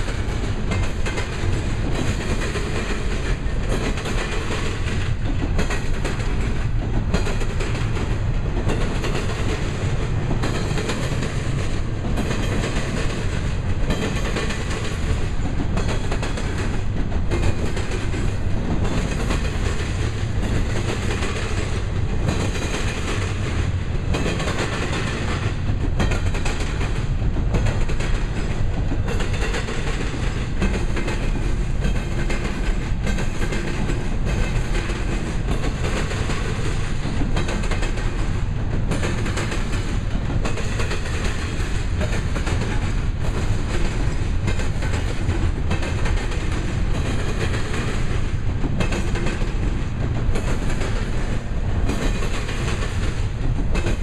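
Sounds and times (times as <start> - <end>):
steel wheels rumbling on rail: 0.0 - 54.0
wheels clickety-clack over rail joints: 0.0 - 54.0.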